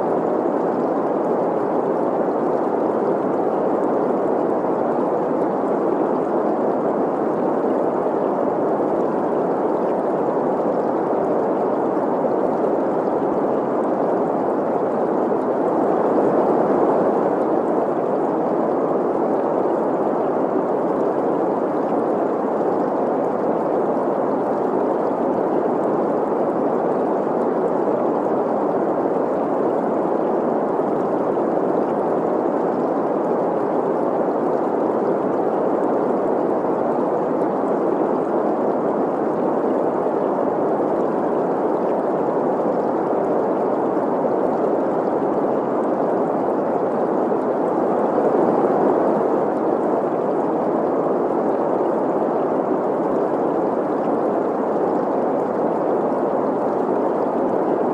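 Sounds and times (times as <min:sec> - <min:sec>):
stream gurgling: 0:00.0 - 0:57.9.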